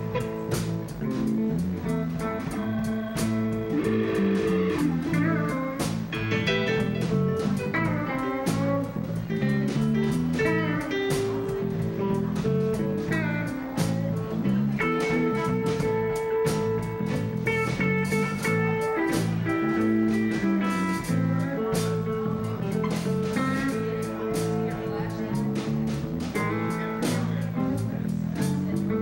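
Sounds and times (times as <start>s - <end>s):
electric guitars strumming: 0.0s - 29.0s
keyboard sustained notes: 0.0s - 29.0s.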